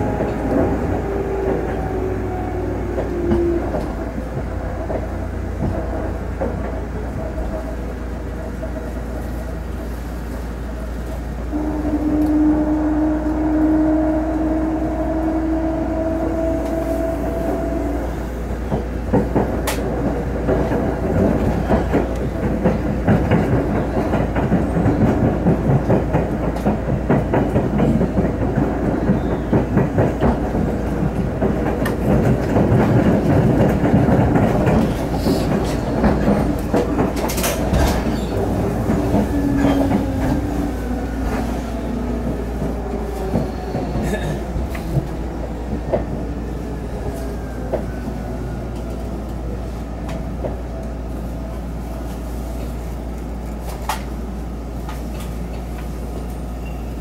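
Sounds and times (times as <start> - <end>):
train running gear rumble: 0.0 - 57.0.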